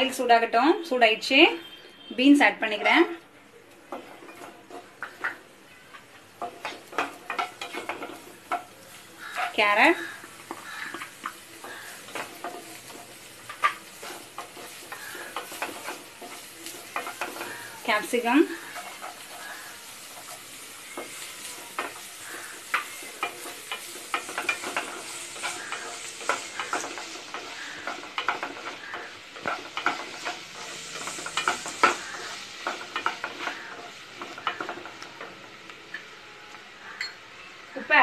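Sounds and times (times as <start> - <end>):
vegetables sizzling in hot oil: 2.2 - 38.0
spatula scraping and tapping pan: 3.8 - 36.1.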